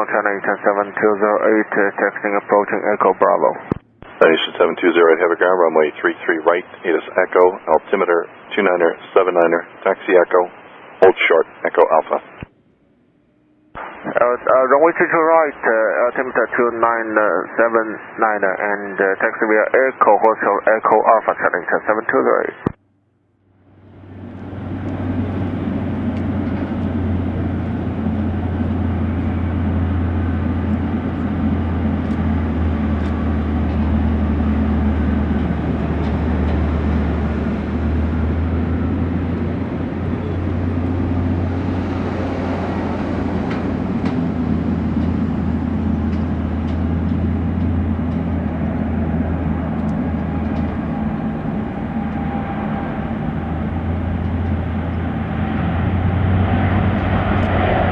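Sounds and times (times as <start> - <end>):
jet engines running: 0.0 - 19.0, 23.6 - 57.9.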